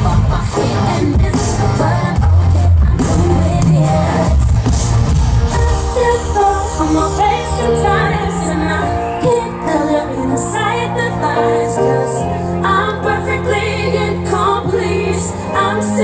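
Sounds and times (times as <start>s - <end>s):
woman singing: 0.0s - 4.8s, 5.4s - 16.0s
live pop band playing: 0.0s - 16.0s.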